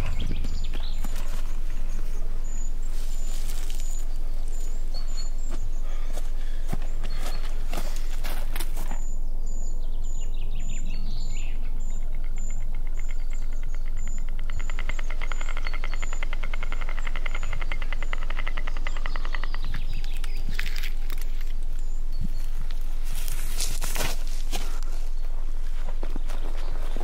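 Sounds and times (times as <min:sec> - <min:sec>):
bird trilling: 0:00.0 - 0:25.6
bird chirping: 0:00.0 - 0:27.0
steady low hum: 0:00.0 - 0:27.0.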